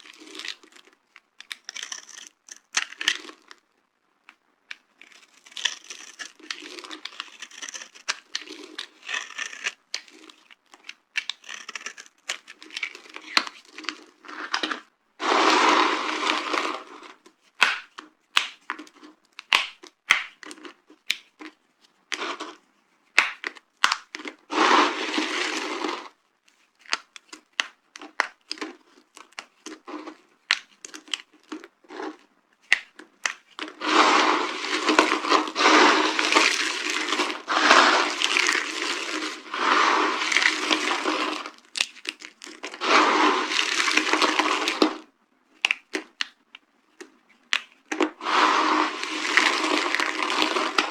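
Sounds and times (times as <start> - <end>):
soap crumbling crunches: 0.0 - 3.6, 4.3 - 50.9
dry soap cracking by hand: 0.0 - 50.9.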